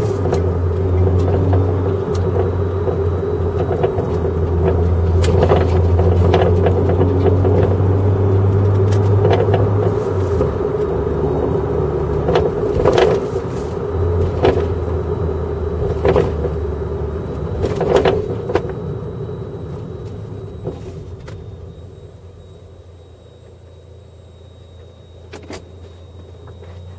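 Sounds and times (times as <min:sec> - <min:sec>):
low road and drivetrain drone: 0:00.0 - 0:26.9.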